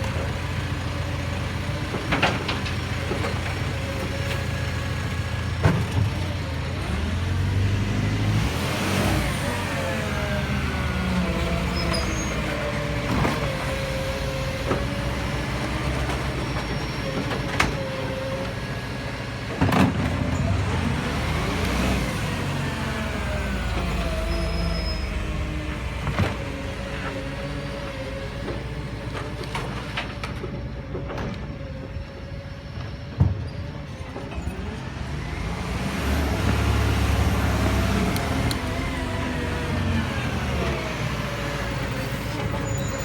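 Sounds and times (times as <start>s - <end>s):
garbage truck engine revving: 0.0s - 32.9s, 33.7s - 43.0s.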